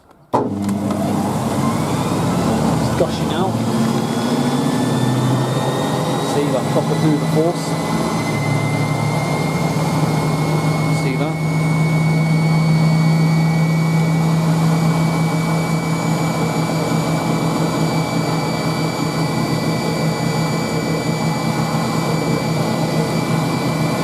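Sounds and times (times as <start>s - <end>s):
spin dryer humming and whining: 0.3s - 24.0s.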